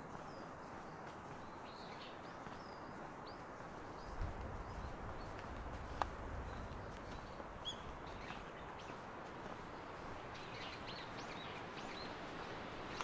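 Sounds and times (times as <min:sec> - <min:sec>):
low outdoor background noise: 0:00.0 - 0:13.0
small birds chirping: 0:00.0 - 0:13.0.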